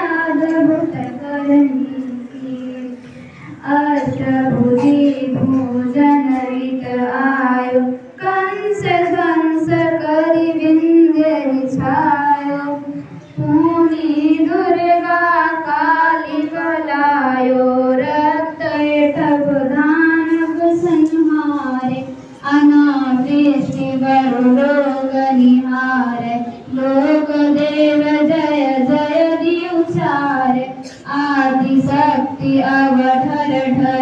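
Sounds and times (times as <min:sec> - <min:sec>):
children and adults singing a hymn: 0:00.0 - 0:34.0.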